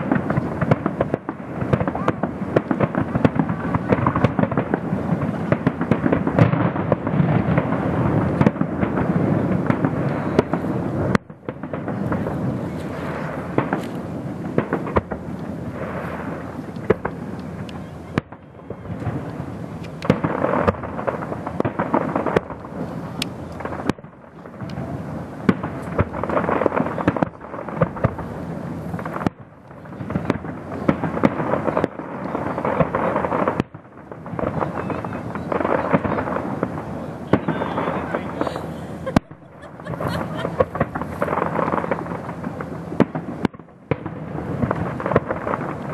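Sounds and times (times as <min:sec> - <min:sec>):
crackling rumble of fireworks: 0:00.0 - 0:45.9
fireworks bursting: 0:00.0 - 0:45.9.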